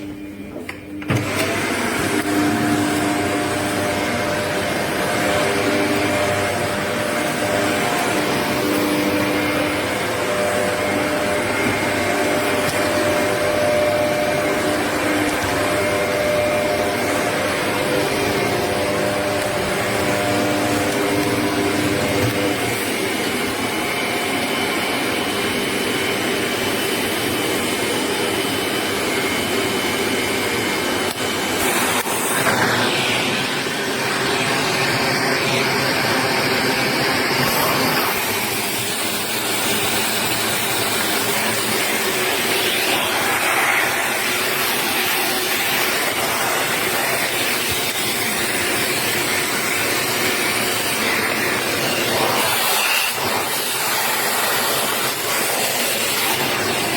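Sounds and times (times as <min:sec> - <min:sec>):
vacuum cleaner motor whir: 0:00.0 - 0:56.9.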